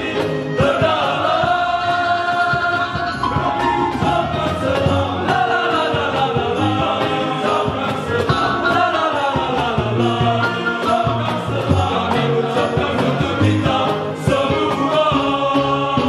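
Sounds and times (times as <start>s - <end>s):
guitars: 0.0s - 16.0s
male choir singing: 0.0s - 16.0s
violins: 0.0s - 16.0s.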